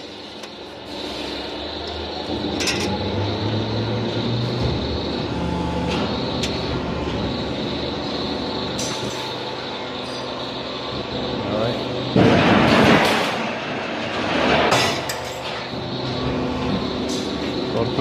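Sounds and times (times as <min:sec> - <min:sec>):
high machine whine: 0:00.0 - 0:18.0
metalworking machinery humming: 0:00.0 - 0:18.0.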